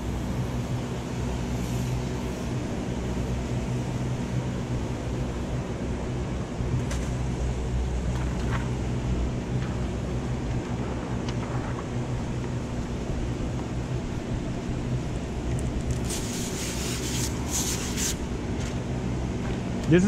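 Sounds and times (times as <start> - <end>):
fan humming with rushing air: 0.0 - 20.0.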